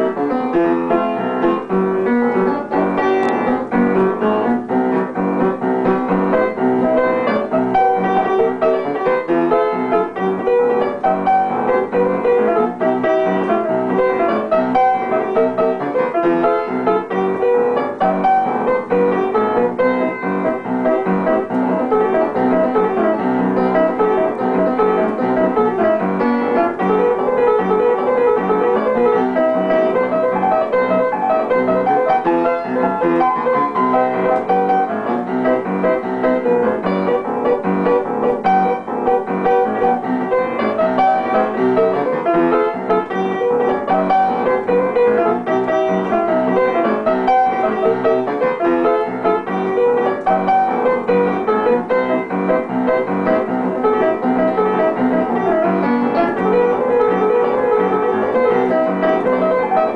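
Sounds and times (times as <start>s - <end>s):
upright piano playing: 0.0s - 59.9s.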